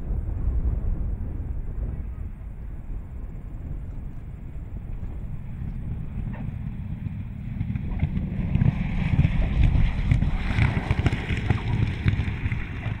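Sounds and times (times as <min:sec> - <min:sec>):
piston aircraft engine burbling: 0:02.0 - 0:13.0.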